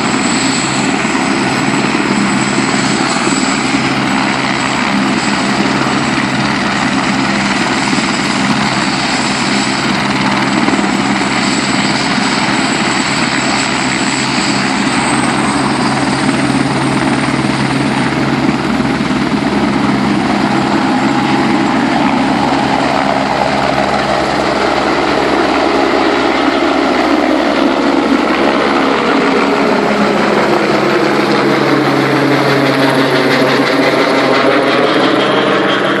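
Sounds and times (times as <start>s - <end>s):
helicopter rotor and engine: 0.0s - 36.0s.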